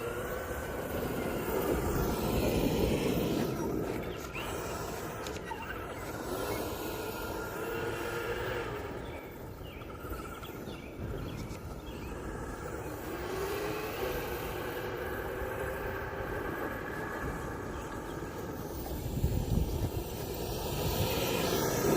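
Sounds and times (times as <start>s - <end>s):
electric ducted fans whining: 0.0s - 21.9s
low wind rumble: 0.0s - 21.9s.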